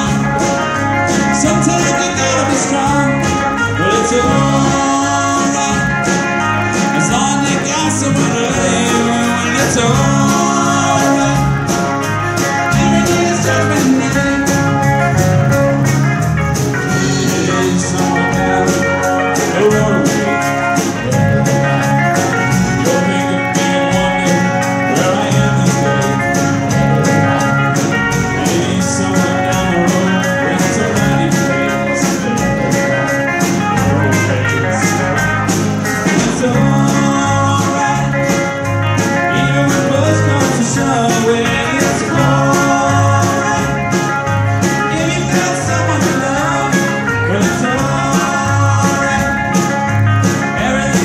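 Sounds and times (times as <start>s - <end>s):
drum kit beat: 0.0s - 51.0s
electric bass: 0.0s - 51.0s
electric guitars: 0.0s - 51.0s
keyboard: 0.0s - 51.0s
man singing lead: 0.0s - 51.0s.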